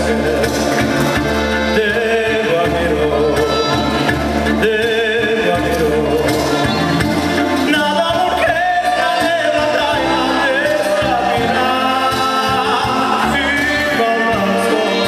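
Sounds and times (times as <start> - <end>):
plucked upright bass: 0.0 - 15.0.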